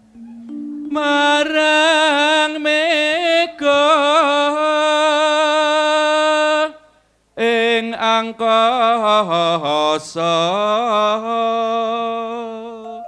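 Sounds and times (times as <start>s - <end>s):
person singing: 0.2s - 6.8s, 7.4s - 13.0s.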